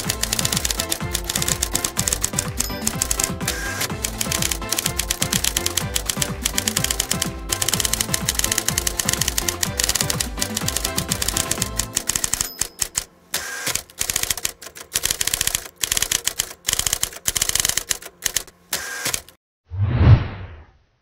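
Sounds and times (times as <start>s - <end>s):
background music: 0.0s - 18.1s
typewriter key clicks: 0.0s - 19.4s.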